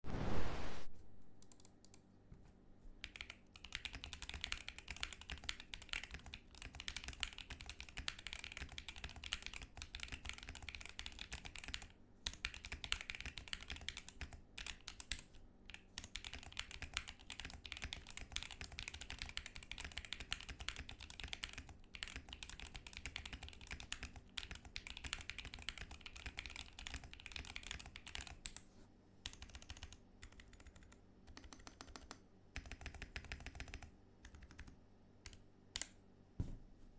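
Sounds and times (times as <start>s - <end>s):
mechanical keyboard typing: 3.0s - 28.6s, 29.2s - 36.0s.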